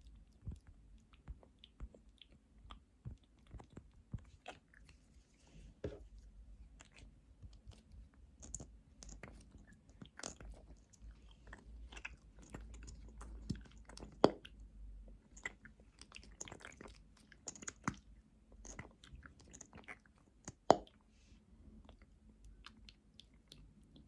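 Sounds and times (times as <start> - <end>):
lip smacks and wet clicks: 0.0 - 5.0, 6.7 - 21.0, 21.8 - 24.0.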